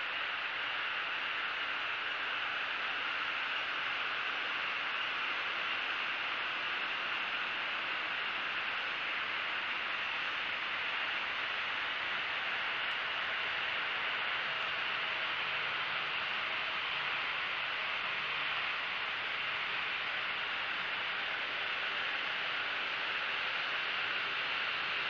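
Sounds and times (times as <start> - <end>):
steady microphone hiss: 0.0 - 25.0.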